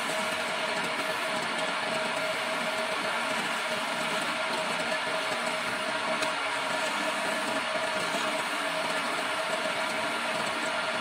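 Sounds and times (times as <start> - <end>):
chisel cutting spinning wood: 0.0 - 11.0
lathe motor humming: 0.0 - 11.0.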